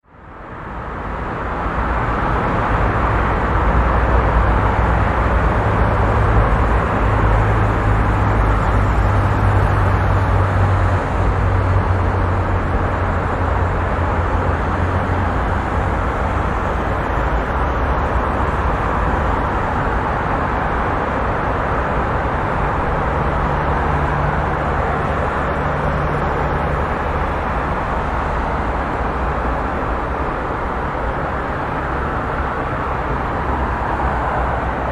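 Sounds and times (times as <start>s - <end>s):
busy road traffic: 0.0s - 34.9s.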